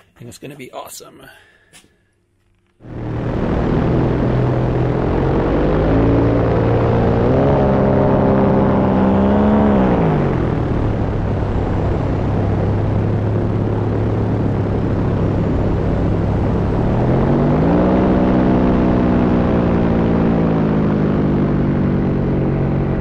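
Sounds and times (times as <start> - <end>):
two-stroke engine and propeller: 2.5 - 23.0
wind rushing over microphone: 2.8 - 23.0.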